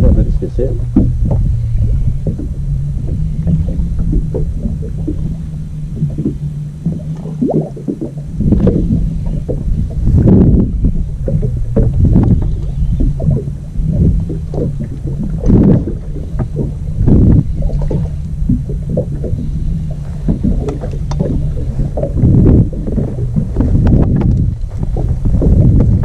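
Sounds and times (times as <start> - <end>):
outboard motor idling: 0.0 - 26.0
wind buffeting microphone: 0.0 - 26.0.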